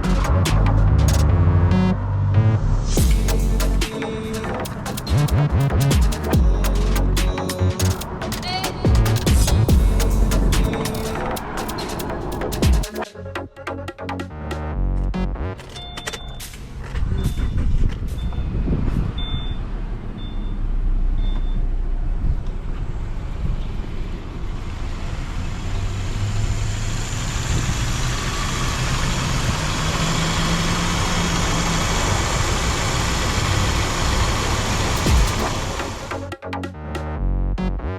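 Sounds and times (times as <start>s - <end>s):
car engine and road noise: 0.0s - 36.4s.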